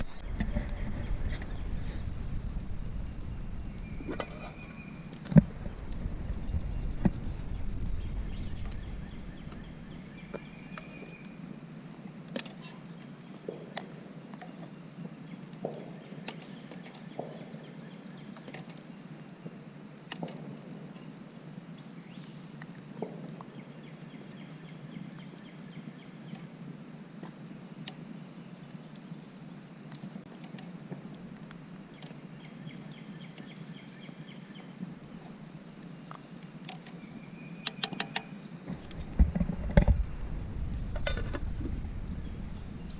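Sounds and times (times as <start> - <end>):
campfire crackling: 0.0 - 42.9
low background noise: 0.0 - 42.9.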